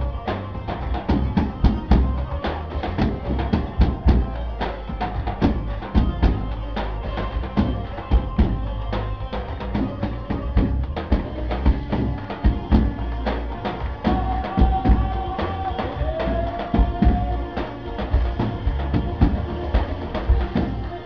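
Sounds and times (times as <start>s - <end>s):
fast drum strikes: 0.0s - 21.0s
held melody line: 0.0s - 21.0s.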